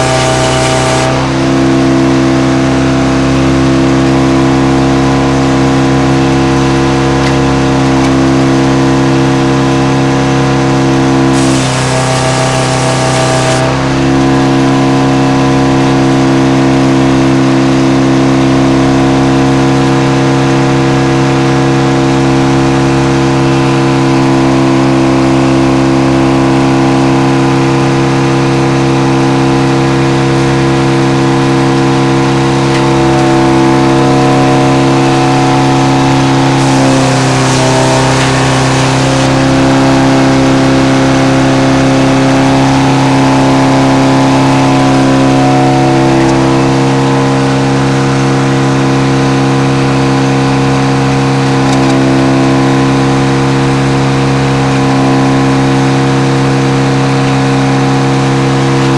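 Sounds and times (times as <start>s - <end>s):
sawmill mechanical drone: 0.0s - 58.9s.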